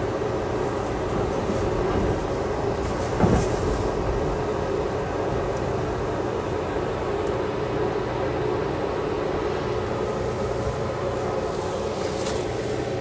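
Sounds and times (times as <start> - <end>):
train car rumbling on rails: 0.0 - 13.0.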